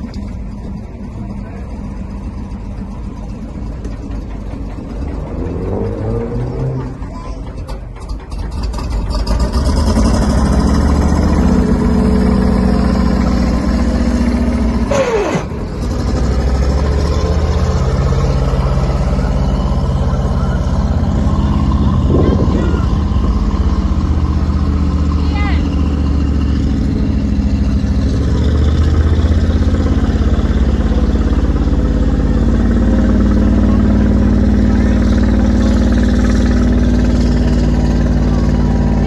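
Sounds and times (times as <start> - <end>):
truck engine revving: 0.0 - 39.0.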